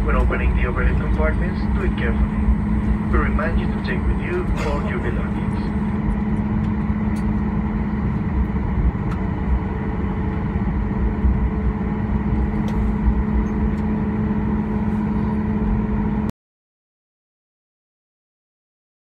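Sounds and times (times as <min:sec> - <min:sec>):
jet engines idling: 0:00.0 - 0:16.3
low rumble: 0:00.0 - 0:16.3.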